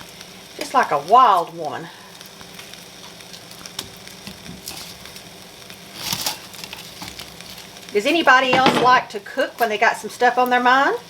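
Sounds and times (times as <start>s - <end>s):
onion sizzling in frying pan: 0.0s - 11.0s.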